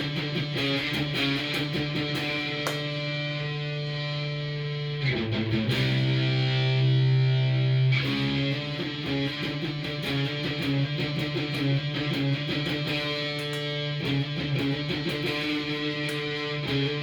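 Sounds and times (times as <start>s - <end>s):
electric guitar chords and picking: 0.0s - 17.0s.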